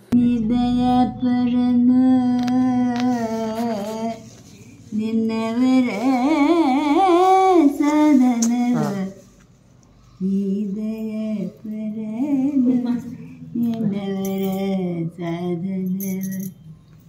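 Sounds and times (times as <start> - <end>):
elderly man singing unaccompanied: 0.1 - 9.3, 10.2 - 16.5.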